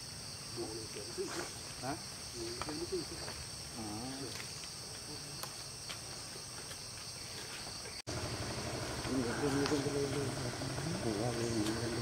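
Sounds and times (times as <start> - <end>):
insects chirping shrilly: 0.0 - 12.0.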